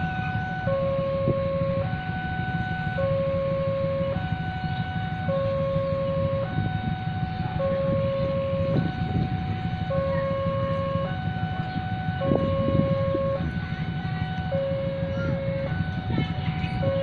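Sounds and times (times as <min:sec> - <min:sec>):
low rumble of traffic: 0:00.0 - 0:17.0
two-tone warning alarm: 0:00.0 - 0:17.0.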